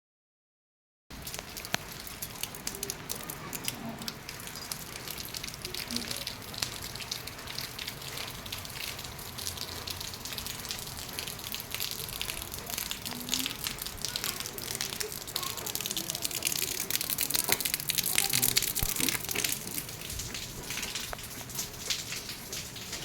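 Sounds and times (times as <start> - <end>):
heavy rain falling: 1.1 - 23.0.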